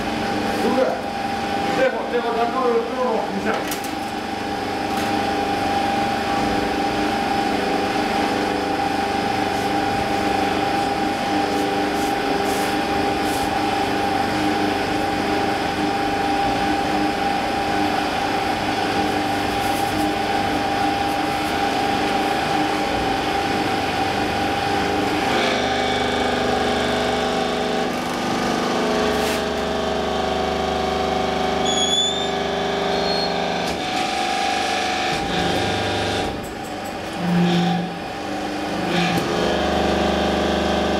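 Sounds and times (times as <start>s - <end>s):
machine hum with fixed tones: 3.8s - 40.9s.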